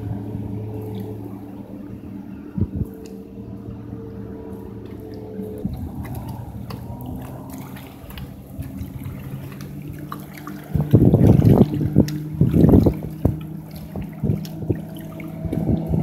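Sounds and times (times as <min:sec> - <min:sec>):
distant outboard engine drone: 0:00.0 - 0:16.0.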